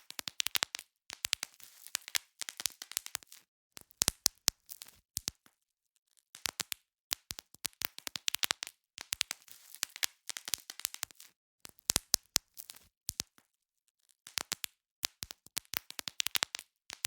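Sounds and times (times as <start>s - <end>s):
bubble wrap popping: 0.0s - 5.5s, 6.3s - 13.5s, 14.2s - 17.0s.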